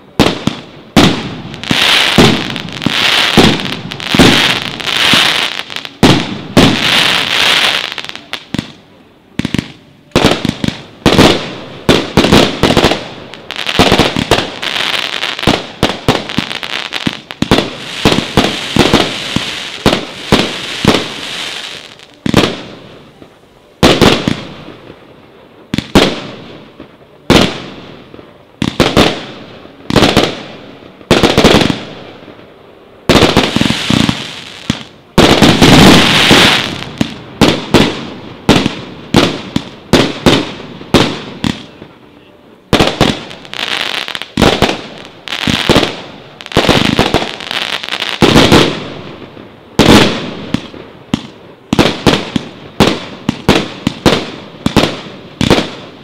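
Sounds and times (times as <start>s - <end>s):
fireworks launching and bursting: 0.0s - 42.0s, 42.7s - 56.0s.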